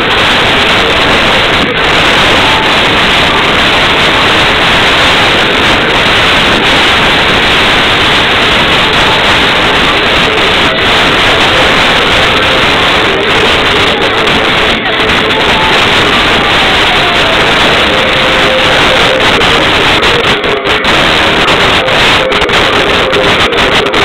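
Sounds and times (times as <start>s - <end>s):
loud steady rushing noise: 0.0s - 24.0s.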